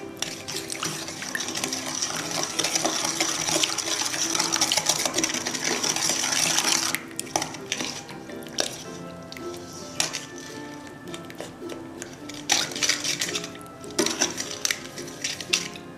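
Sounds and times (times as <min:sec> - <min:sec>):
liquid swishing in a bowl: 0:00.0 - 0:15.9
spoon scraping a metal bowl: 0:00.0 - 0:15.9.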